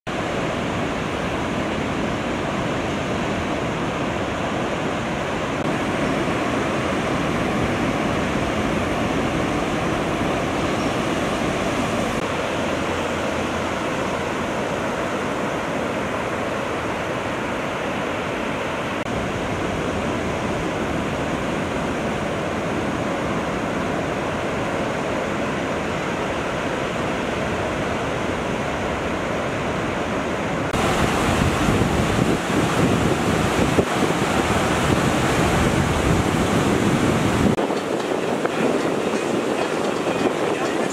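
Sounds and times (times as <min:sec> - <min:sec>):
ocean surf breaking: 0:00.1 - 0:40.9.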